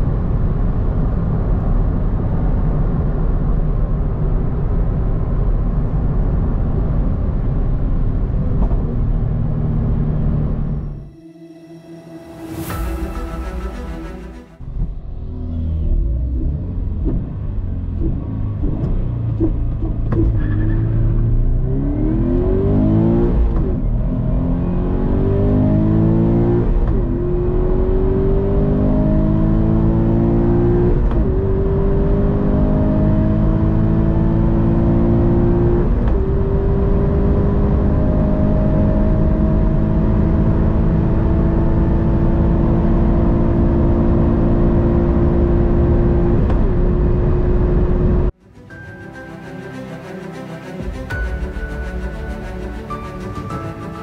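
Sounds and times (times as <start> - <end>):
car engine accelerating: 0.0 - 48.4
road and wind noise: 0.0 - 54.0.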